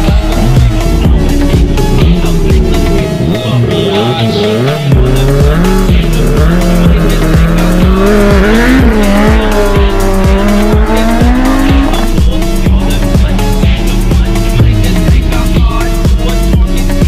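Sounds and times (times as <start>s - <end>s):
electronic dance music: 0.0s - 17.0s
race car engine at high revs: 0.0s - 17.0s.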